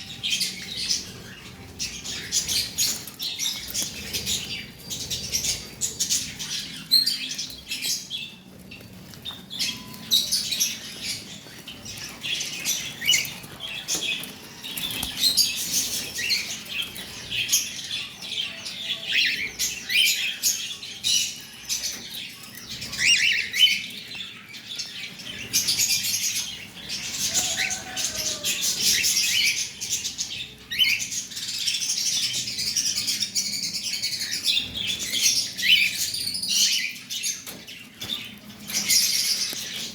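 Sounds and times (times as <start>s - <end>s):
cockatiels chirping: 0.1s - 39.9s.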